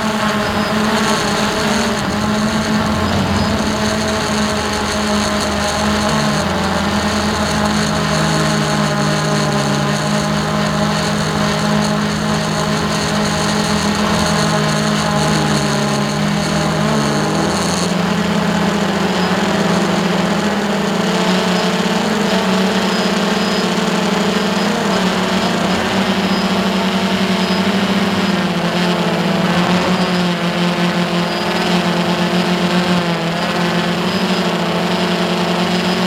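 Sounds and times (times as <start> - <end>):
quadcopter motors humming: 0.0 - 36.0.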